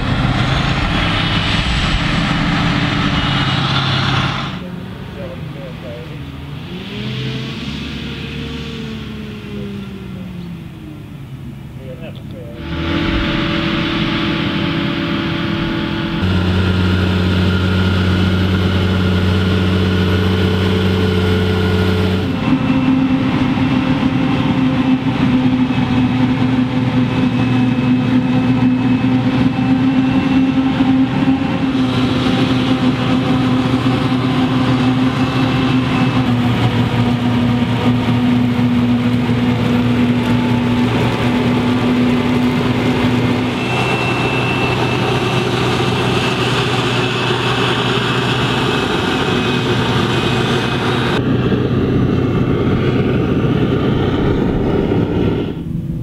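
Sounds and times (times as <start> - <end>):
tractor engine hum: 0.0 - 56.0.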